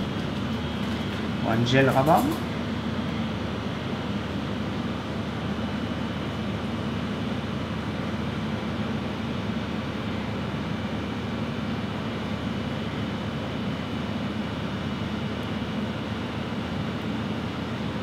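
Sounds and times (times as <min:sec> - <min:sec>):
mechanical background hum: 0:00.0 - 0:18.0.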